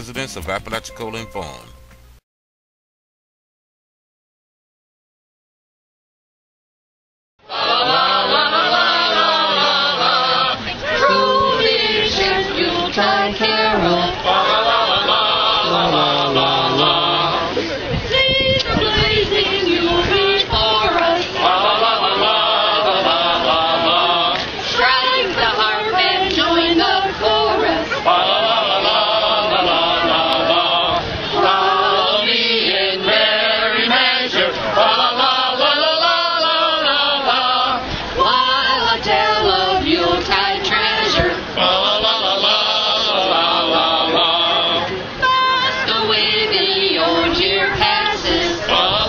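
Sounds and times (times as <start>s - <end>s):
choir singing unaccompanied: 7.4s - 49.0s.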